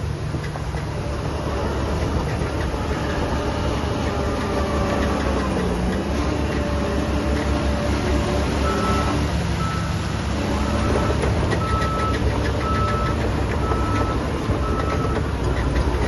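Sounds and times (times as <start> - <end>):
diesel construction machinery running: 0.0 - 16.0.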